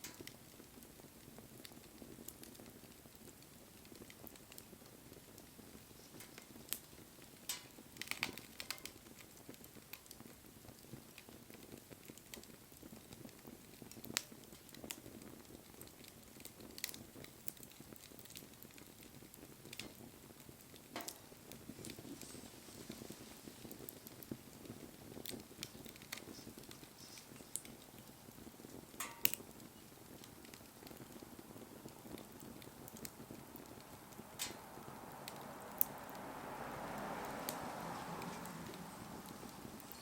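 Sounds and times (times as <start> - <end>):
fire crackling and popping: 0.0 - 40.0
flames fluttering: 0.0 - 40.0.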